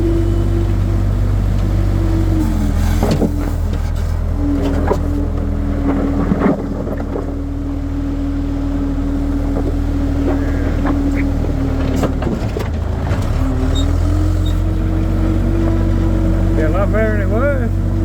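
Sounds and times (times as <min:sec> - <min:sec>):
skid steer engine running: 0:00.0 - 0:18.0.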